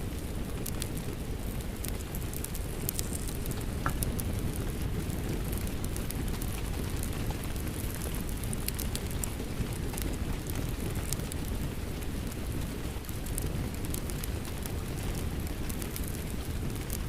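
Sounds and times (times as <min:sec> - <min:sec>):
wood fire crackling and popping: 0:00.0 - 0:17.0
rain rumbling: 0:00.1 - 0:17.0.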